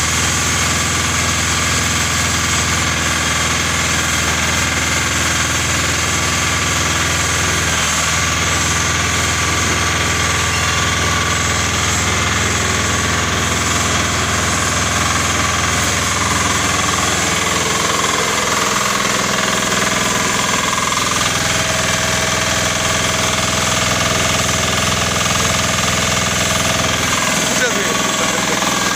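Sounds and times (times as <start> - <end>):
brick-making machine drone: 0.0 - 28.9.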